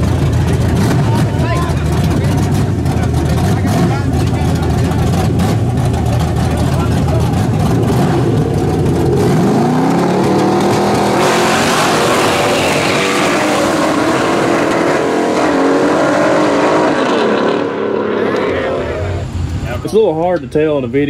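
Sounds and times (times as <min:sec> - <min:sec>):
cars accelerating at full throttle: 0:00.0 - 0:19.7
drag car engines revving: 0:00.0 - 0:21.0.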